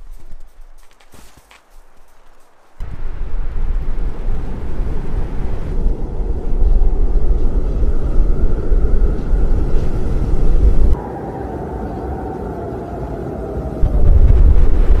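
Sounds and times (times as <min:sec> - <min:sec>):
wind gusting against microphone: 0:01.6 - 0:15.0.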